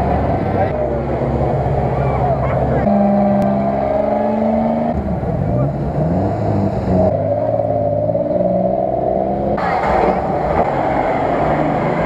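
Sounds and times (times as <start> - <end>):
off-road engines running: 0.0 - 12.0.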